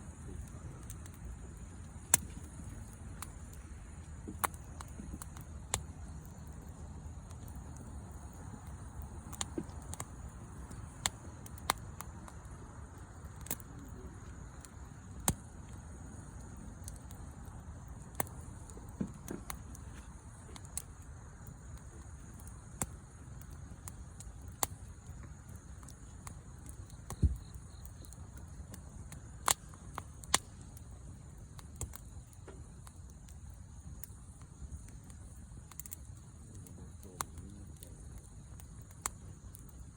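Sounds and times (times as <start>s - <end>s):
low sound of flames: 0.0s - 39.9s
sharp pops of fire: 0.0s - 39.9s
wood fire crackling: 0.0s - 39.9s.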